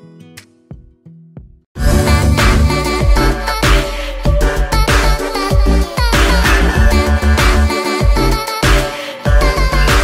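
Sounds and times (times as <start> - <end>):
electronic music with heavy bass: 1.8 - 10.0.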